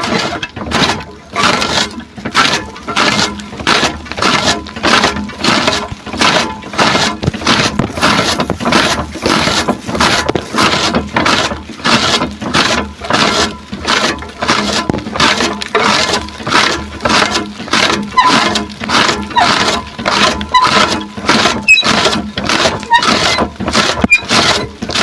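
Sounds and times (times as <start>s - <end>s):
grass cutting strokes: 0.0s - 25.0s.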